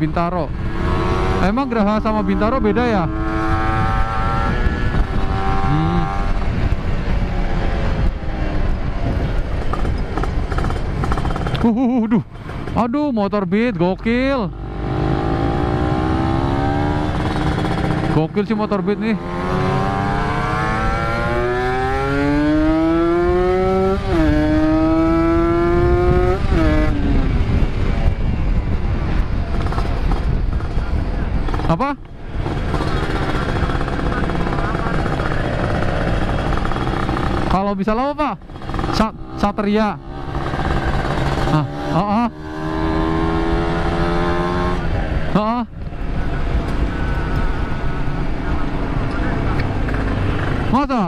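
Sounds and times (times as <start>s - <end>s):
two-stroke motorcycle engine: 0.0s - 13.0s, 14.5s - 27.8s, 29.0s - 51.0s
wind and road noise: 0.0s - 51.0s.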